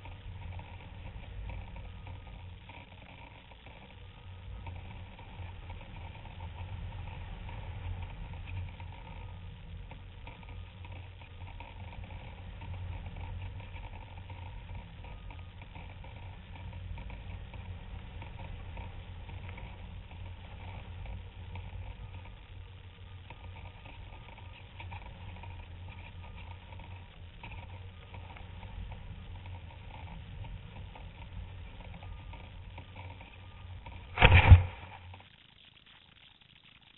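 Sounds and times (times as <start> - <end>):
wind rushing over camera: 0.0 - 35.2.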